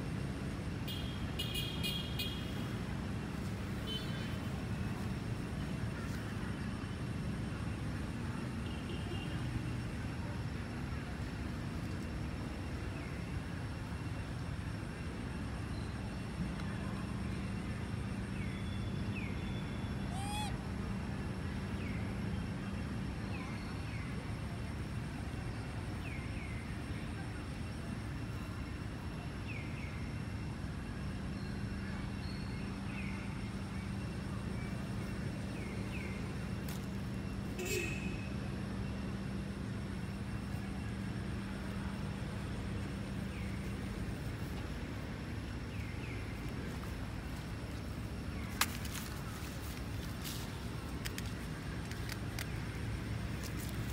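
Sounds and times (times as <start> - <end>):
low outdoor rumble: 0.0 - 53.9.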